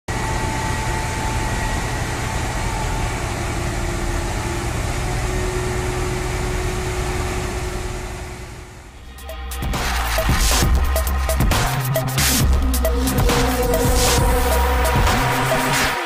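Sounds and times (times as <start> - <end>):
heavy engine idling: 0.1 - 16.0.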